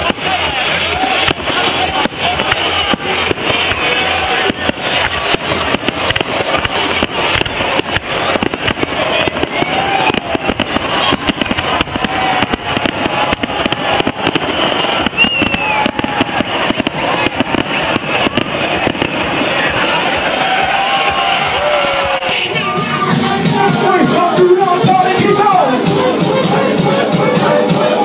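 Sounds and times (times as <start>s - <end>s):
fireworks rumble and fizz: 0.0s - 22.5s
fireworks bangs and crackles: 0.0s - 28.0s.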